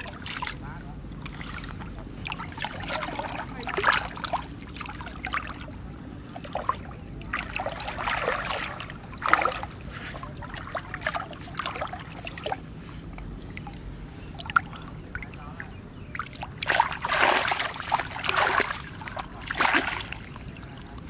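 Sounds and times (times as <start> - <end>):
muddy water splashing: 0.0 - 21.0.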